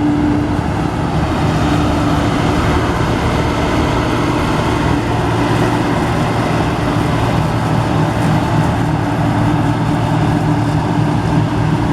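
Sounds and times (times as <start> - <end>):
combine harvester running: 0.0 - 11.9.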